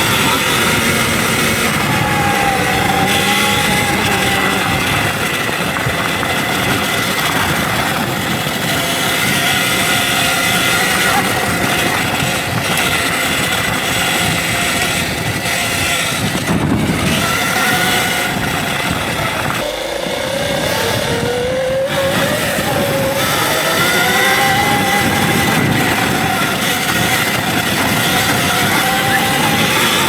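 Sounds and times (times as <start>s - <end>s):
electric dirt bike motor whine: 0.0s - 30.0s
wind and trail noise: 0.0s - 30.0s.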